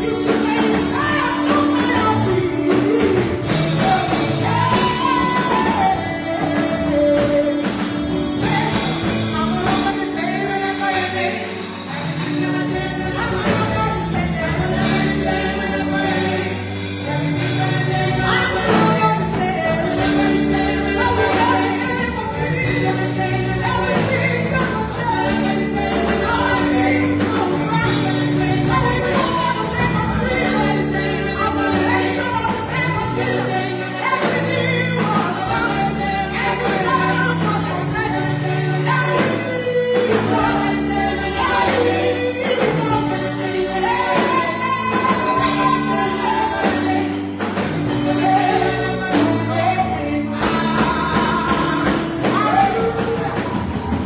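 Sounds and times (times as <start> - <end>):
bass and keyboard accompaniment: 0.0 - 54.0
choir singing gospel: 0.0 - 54.0.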